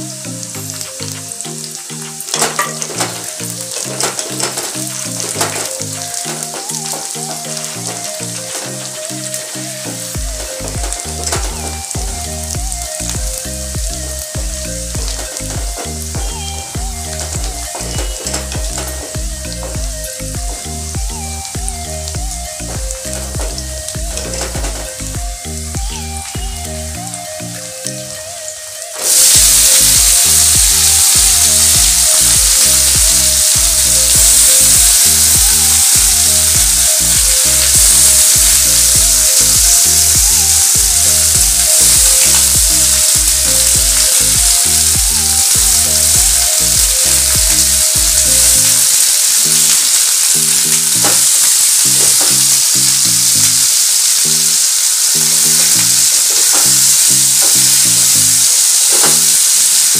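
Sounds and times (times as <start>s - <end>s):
background music: 0.0s - 59.9s
vegetables sizzling in hot oil: 0.0s - 59.9s.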